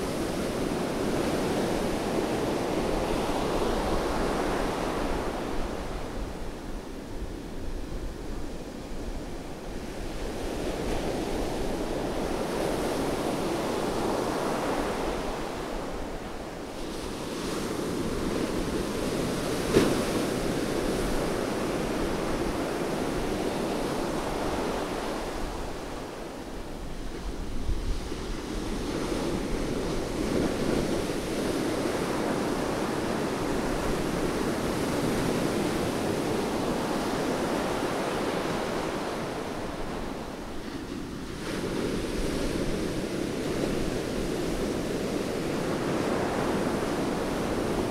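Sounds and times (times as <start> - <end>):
surf washing up beach: 0.0 - 47.9.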